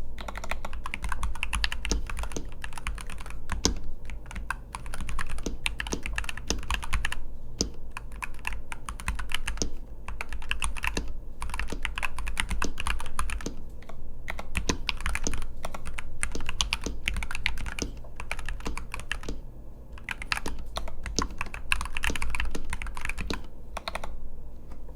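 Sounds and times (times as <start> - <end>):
mechanical keyboard typing: 0.2 - 19.4, 20.0 - 24.9.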